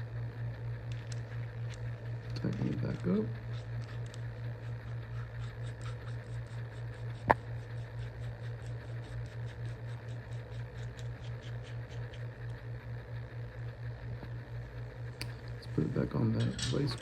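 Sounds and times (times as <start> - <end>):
pulsing low hum: 0.0 - 17.0.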